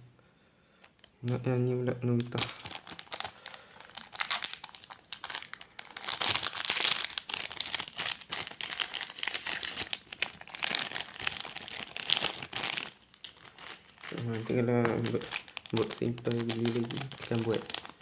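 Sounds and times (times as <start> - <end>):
plastic wrapper crinkling: 0.8 - 18.0.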